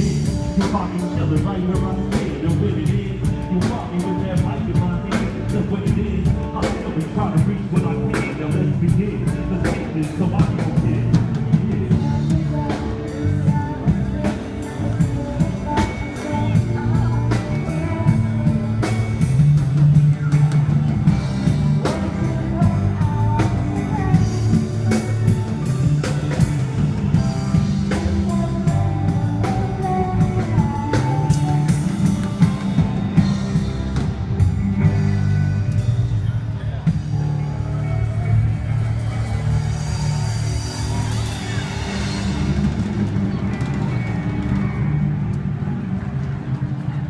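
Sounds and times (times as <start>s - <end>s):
live band playing: 0.0s - 47.0s.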